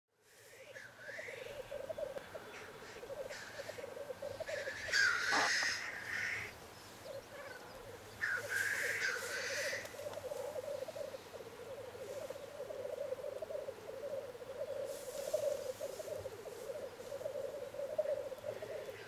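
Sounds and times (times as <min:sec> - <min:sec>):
hissing bird call: 0:00.4 - 0:06.6, 0:07.4 - 0:19.0.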